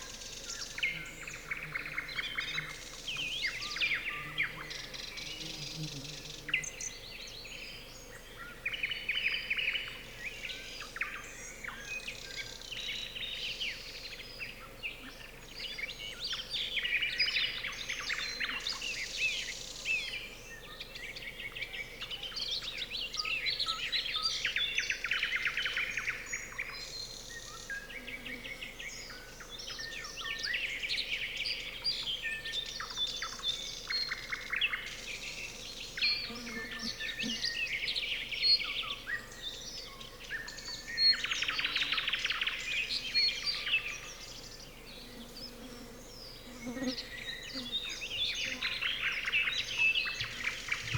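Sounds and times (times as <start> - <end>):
other songbirds: 0.0 - 50.9.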